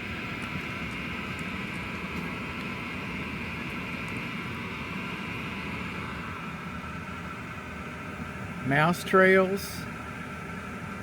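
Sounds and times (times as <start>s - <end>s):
air handler blower whirring: 0.0s - 11.0s.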